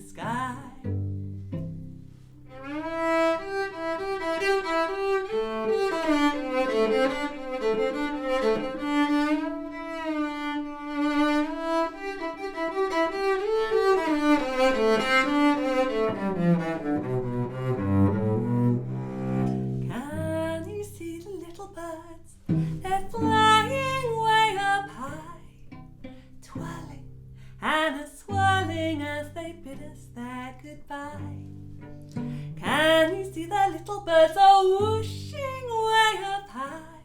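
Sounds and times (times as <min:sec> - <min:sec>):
bowed cello: 0:00.0 - 0:37.0.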